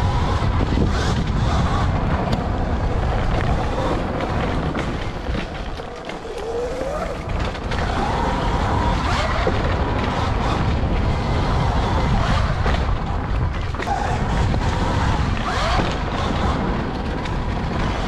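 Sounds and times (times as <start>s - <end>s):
dirt bike engine: 0.0s - 18.0s
wind buffeting microphone: 0.0s - 18.0s.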